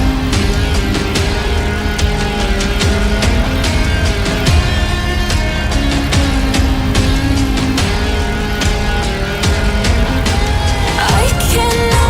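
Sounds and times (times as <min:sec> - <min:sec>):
music with driving drum beat: 0:00.0 - 0:12.0.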